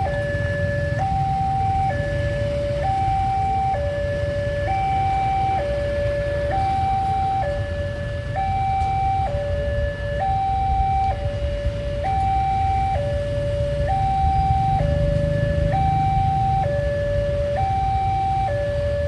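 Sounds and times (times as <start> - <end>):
two-tone level-crossing alarm: 0.0 - 19.0.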